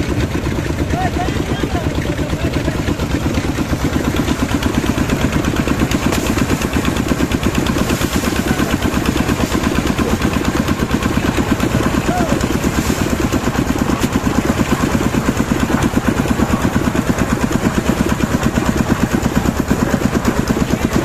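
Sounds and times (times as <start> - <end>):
concrete mixer engine chugging: 0.0 - 21.0.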